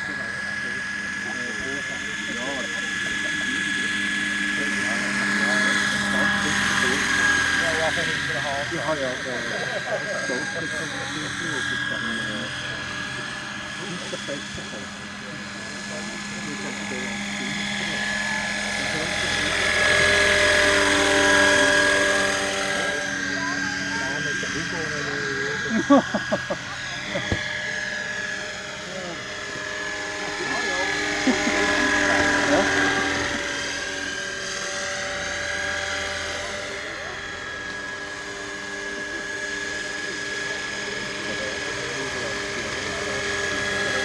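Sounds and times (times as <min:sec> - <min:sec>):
model helicopter rotor whine: 0:00.0 - 0:44.0.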